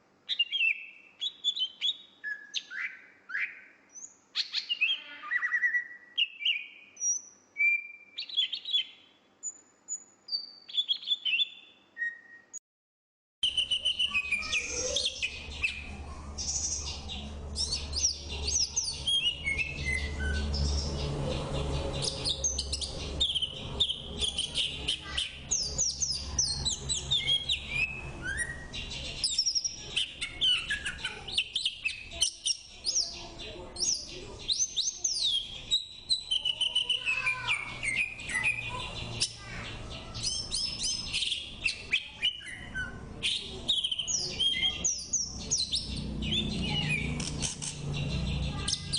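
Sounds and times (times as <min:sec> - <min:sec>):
songbird singing whistled notes: 0:00.3 - 0:12.6, 0:13.4 - 0:21.1, 0:21.9 - 0:33.2, 0:33.8 - 0:39.4, 0:40.2 - 0:47.5.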